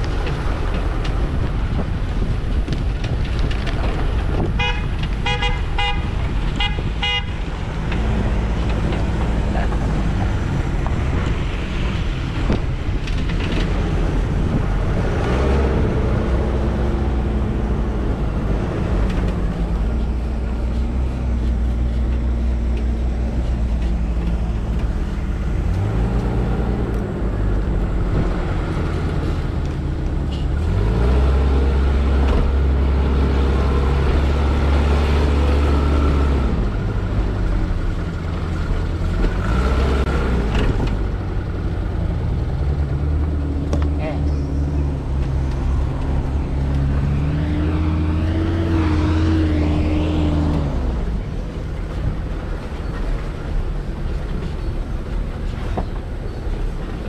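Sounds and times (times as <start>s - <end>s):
vehicle engine revving: 2.6s - 57.0s.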